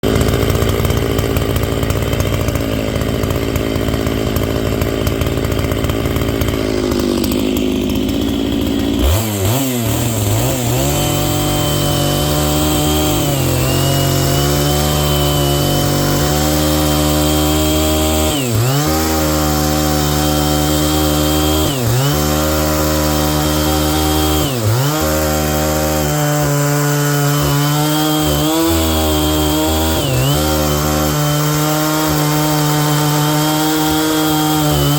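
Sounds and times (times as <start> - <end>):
chainsaw cutting logs: 0.0 - 34.9.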